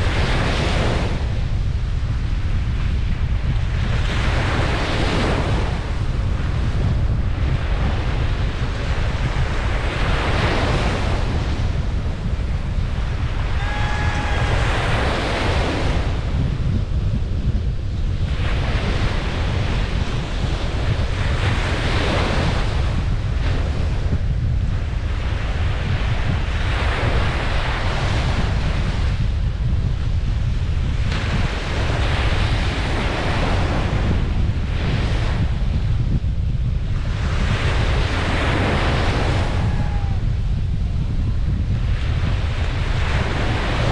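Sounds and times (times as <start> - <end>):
ocean waves breaking on a beach: 0.0 - 43.9
wind rumble on microphone: 0.0 - 43.9.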